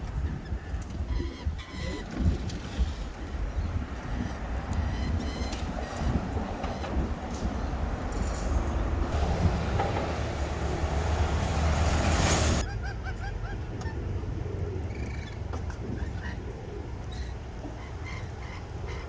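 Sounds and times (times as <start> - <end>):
steady rumbling noise: 0.0 - 19.0.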